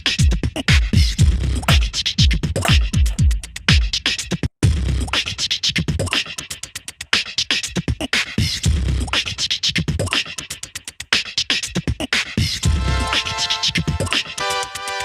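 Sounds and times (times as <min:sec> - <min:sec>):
beatbox-style hip hop beat: 0:00.0 - 0:15.0.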